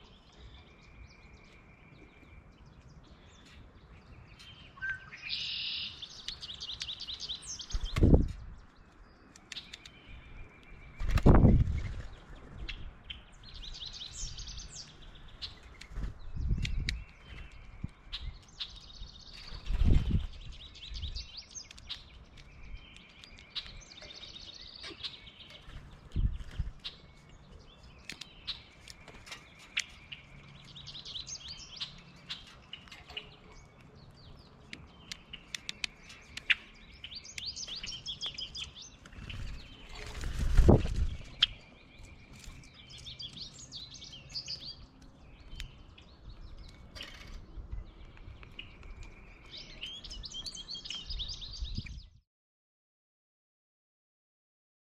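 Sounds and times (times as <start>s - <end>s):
small birds chirping: 0.0s - 52.2s.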